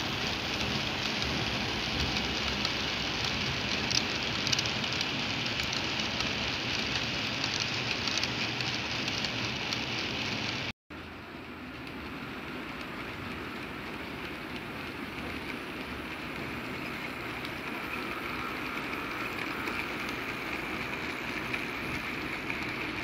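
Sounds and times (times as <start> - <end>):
model train motors whirring: 0.0 - 10.7, 11.4 - 23.0
small metal wheels on rails: 0.0 - 23.0.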